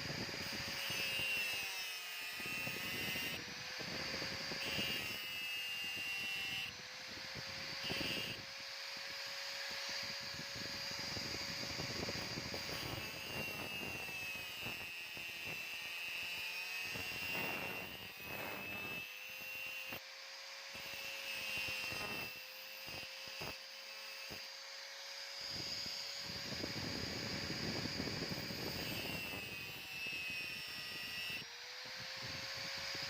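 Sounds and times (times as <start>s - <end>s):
electric grinder whining: 0.0s - 33.0s
grinder scraping steel: 0.0s - 33.0s.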